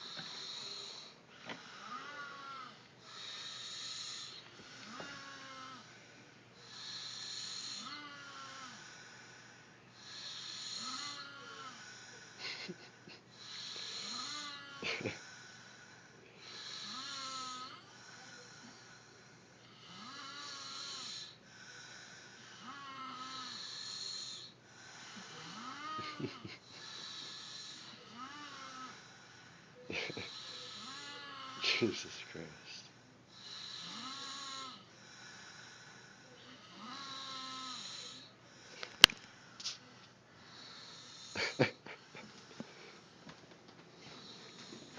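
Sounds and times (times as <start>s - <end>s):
person snoring: 0.0s - 43.2s.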